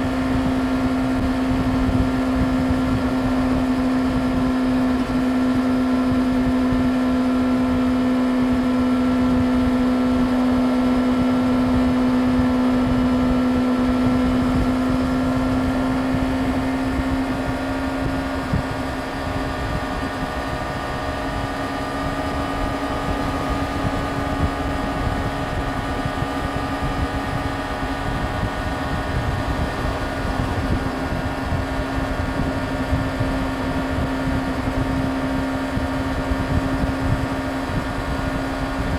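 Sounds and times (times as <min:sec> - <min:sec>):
motorcycle engine at high revs: 0:00.0 - 0:38.9
rushing wind: 0:00.0 - 0:38.9.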